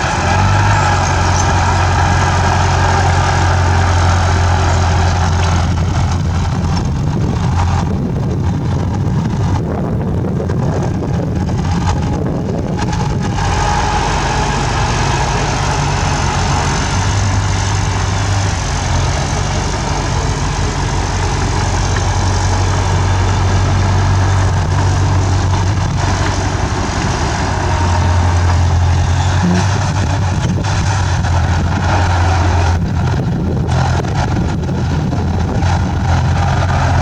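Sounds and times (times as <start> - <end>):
bulldozer diesel engine: 0.0 - 37.0.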